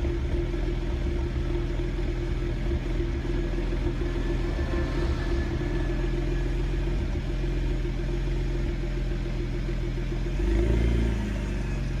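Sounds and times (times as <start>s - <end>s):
car engine idling unevenly: 0.0s - 12.0s.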